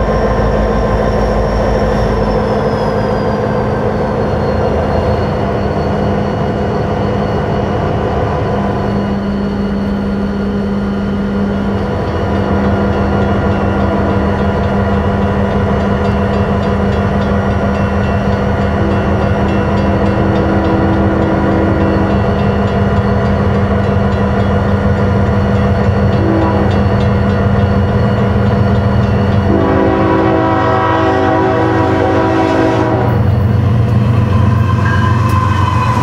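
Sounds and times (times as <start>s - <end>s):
diesel locomotives running: 0.0s - 36.0s.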